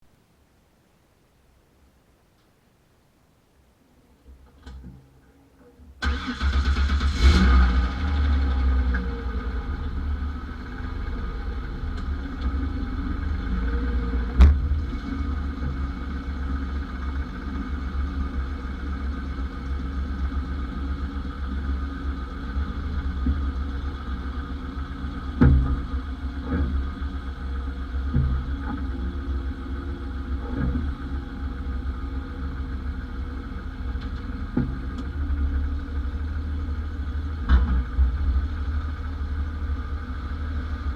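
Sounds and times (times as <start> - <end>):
car engine running: 6.0 - 40.9.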